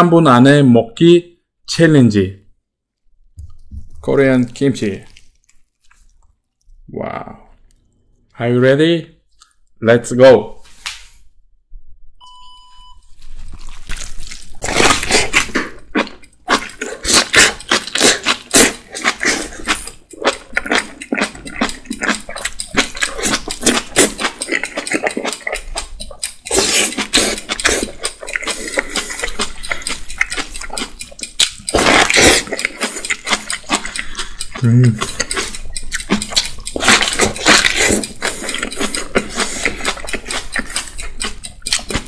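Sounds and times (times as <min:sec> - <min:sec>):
wet crunching and chewing: 0:03.4 - 0:08.4, 0:13.0 - 0:42.0.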